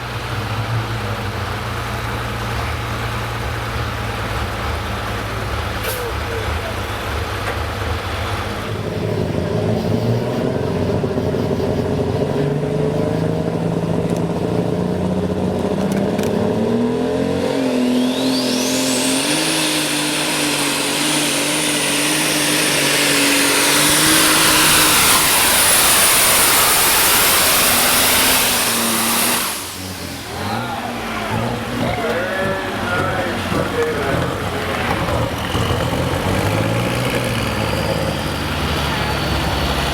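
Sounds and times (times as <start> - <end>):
high turbo whine: 0.0 - 39.9
tractor diesel engine under load: 0.0 - 39.9.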